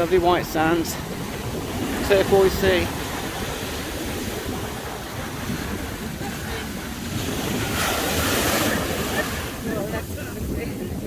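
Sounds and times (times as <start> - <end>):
sea waves washing onto beach: 0.0 - 11.0
wind buffeting microphone: 0.0 - 11.0.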